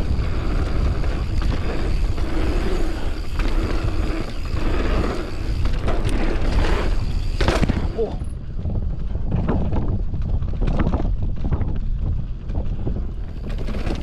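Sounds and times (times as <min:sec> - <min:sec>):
bike rattling: 0:00.0 - 0:14.0
tyres rolling over dirt trail: 0:00.0 - 0:14.0
wind rushing over microphone: 0:00.0 - 0:14.0.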